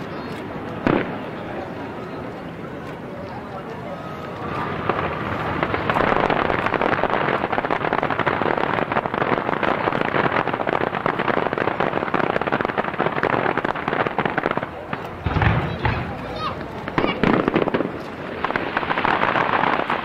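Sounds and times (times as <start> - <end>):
crackling fireworks: 0.0 - 20.0.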